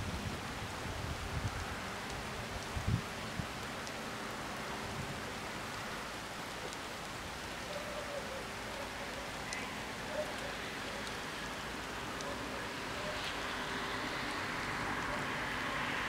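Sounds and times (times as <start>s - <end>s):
rain hissing: 0.0s - 16.0s
single raindrops ticking: 1.4s - 15.4s.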